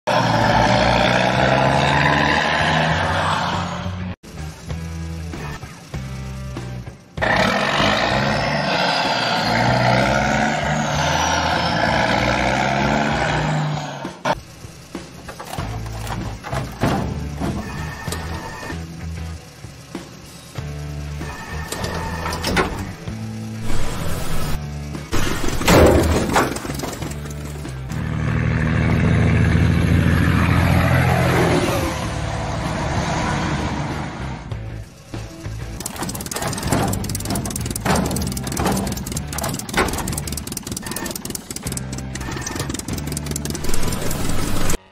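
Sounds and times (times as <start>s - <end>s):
vehicle engine running: 0.1s - 44.8s.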